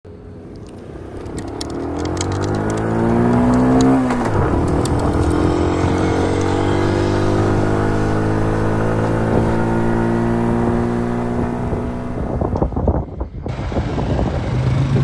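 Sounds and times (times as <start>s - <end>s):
dirt bike engine running: 0.4s - 15.0s.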